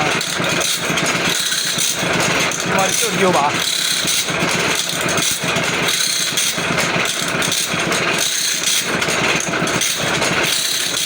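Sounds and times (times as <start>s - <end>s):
sharpening machine clattering: 0.0s - 11.0s.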